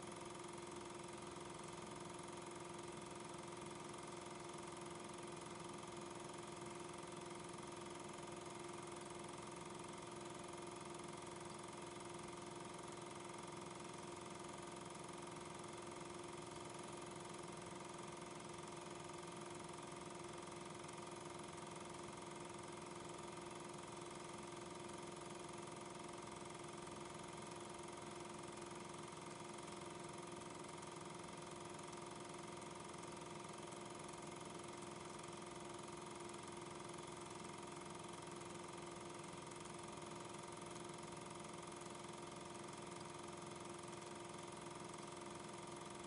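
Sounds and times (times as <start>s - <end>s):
machine hum with hiss: 0.0s - 46.0s.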